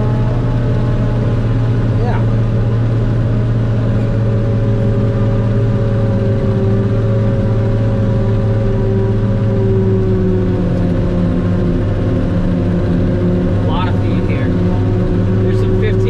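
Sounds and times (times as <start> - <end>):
forage harvester machine whine: 0.0 - 16.0
tractor engine running: 0.0 - 16.0.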